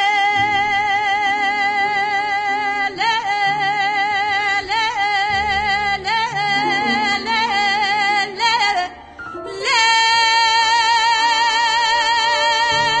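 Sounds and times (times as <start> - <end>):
woman singing folk song: 0.0 - 13.0.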